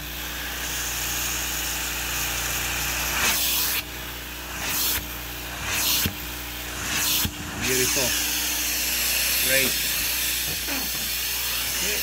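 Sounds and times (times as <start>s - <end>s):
carpet extractor spraying and vacuuming: 0.0s - 12.0s
vacuum motor hum: 0.0s - 12.0s.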